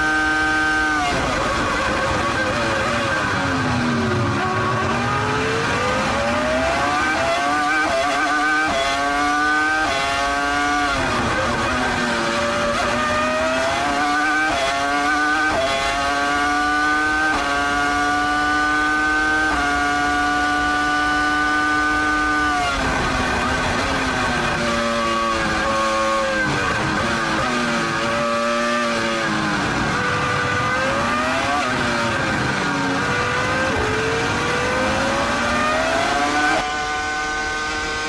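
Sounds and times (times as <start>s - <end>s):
racing car engine upshifting: 0.0s - 38.0s.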